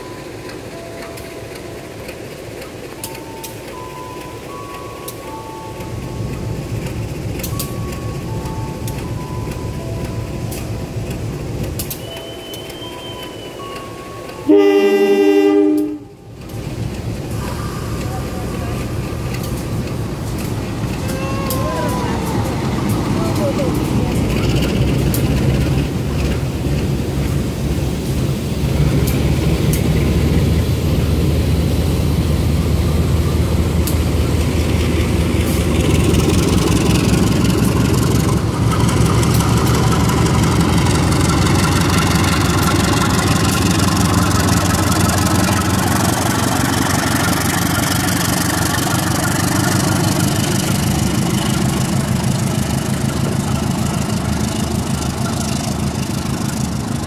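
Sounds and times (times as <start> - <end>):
locomotive engine drone: 0.0 - 57.0
train wheels on rails: 0.0 - 57.0.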